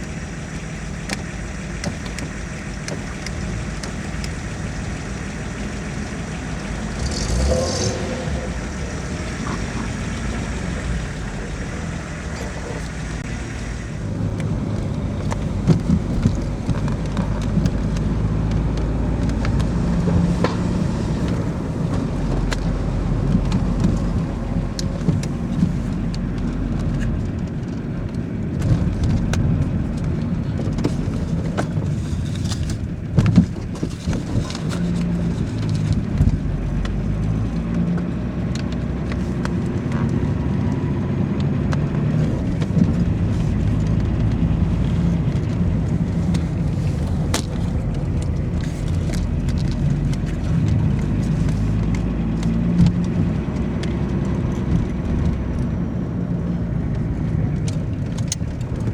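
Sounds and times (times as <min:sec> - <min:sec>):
car engine and road noise: 0:00.0 - 0:58.9.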